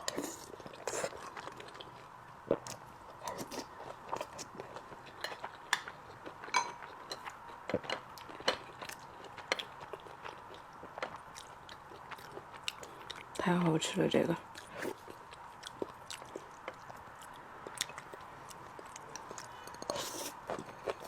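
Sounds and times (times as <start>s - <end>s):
mouth chewing food: 0.0s - 13.4s, 14.5s - 21.0s.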